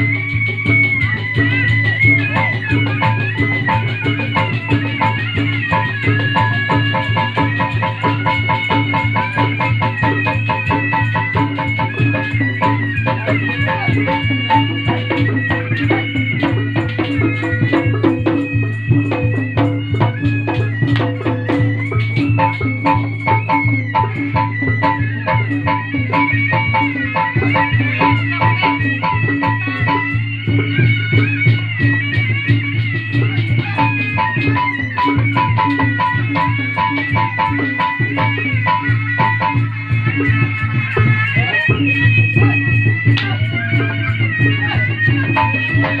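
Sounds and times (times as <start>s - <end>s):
percussion-led music: 0.0s - 46.0s.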